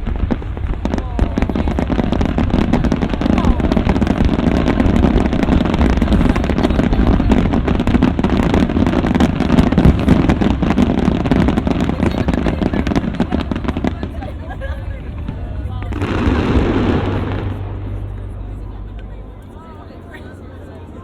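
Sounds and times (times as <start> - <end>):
fireworks crackling and popping: 0.0 - 19.6
low rumble: 0.0 - 21.0.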